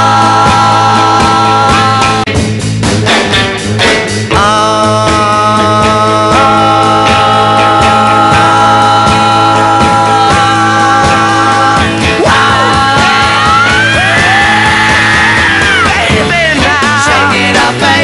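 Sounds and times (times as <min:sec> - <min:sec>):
rock music chords: 0:00.0 - 0:18.0
steady drum beat: 0:00.0 - 0:18.0.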